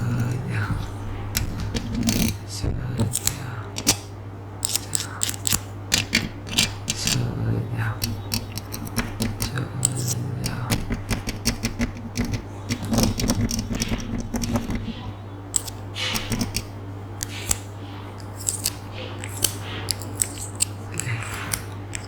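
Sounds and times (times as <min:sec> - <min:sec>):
low electrical hum: 0:00.0 - 0:22.0
sharp clicks and scratches: 0:00.0 - 0:22.0.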